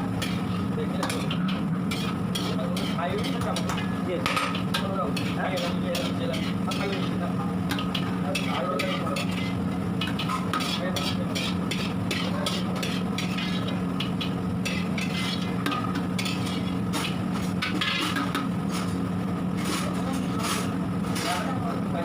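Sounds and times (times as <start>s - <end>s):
steady low hum: 0.0s - 22.0s
ladle scraping in pot: 0.2s - 3.8s, 4.4s - 19.0s, 19.6s - 21.4s.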